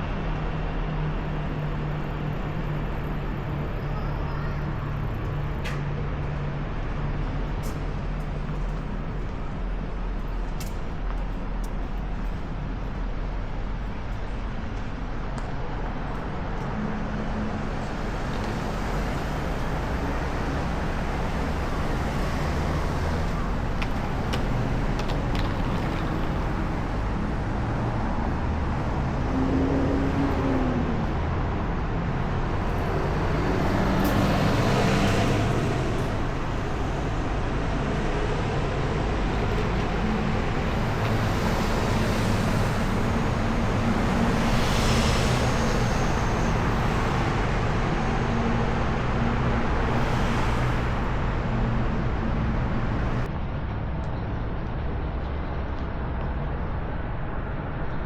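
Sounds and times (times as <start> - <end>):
hum of passing cars: 0.0 - 58.0.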